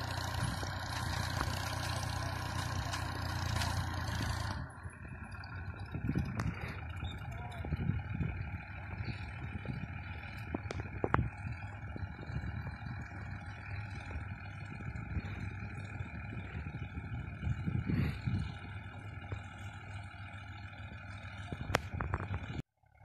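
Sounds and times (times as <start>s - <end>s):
tractor engine running under load: 0.0s - 23.0s.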